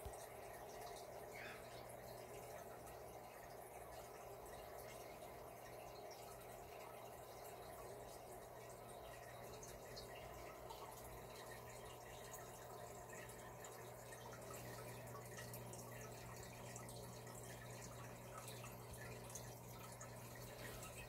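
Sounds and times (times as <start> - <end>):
low steady hum: 0.0 - 21.0
water drips and trickling: 0.0 - 21.0.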